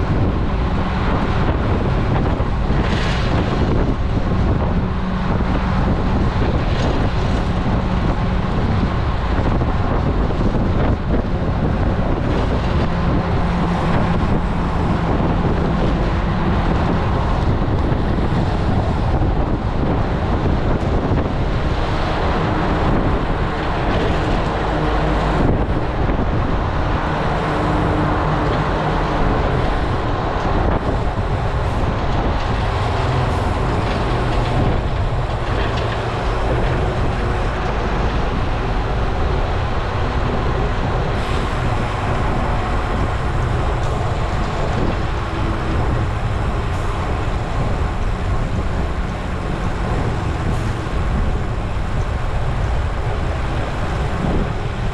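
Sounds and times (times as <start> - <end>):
bicycle tyre road noise: 0.0 - 54.9
wind buffeting microphone: 0.0 - 54.9.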